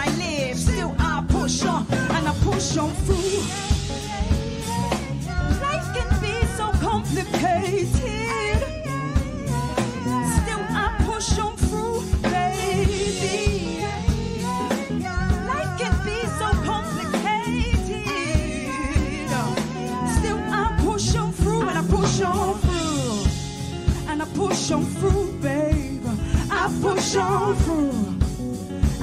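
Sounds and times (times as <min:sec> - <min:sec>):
soul band playing: 0:00.0 - 0:29.0
woman singing: 0:00.0 - 0:29.0.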